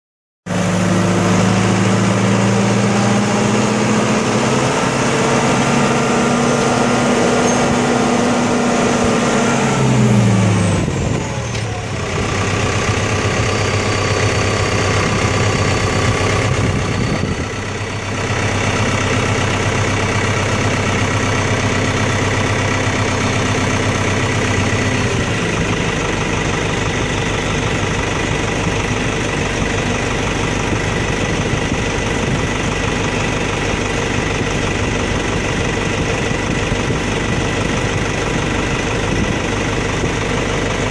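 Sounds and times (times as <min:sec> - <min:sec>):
diesel mower engine running: 0:00.5 - 0:40.9.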